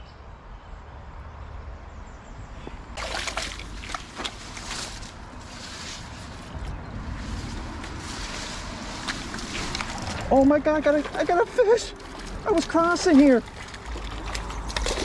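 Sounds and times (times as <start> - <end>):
creek water running: 2.8 - 15.0
splashing while wading: 3.0 - 15.0.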